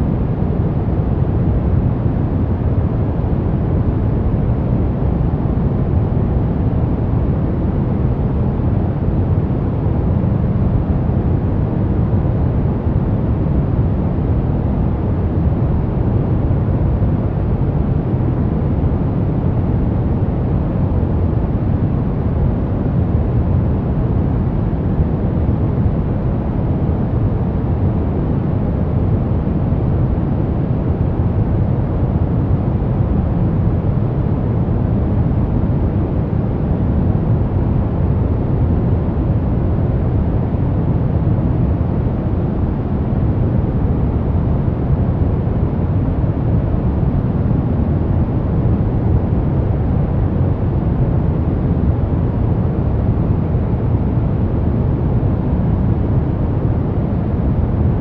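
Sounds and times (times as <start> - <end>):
low rumbling white noise: 0.0 - 58.0.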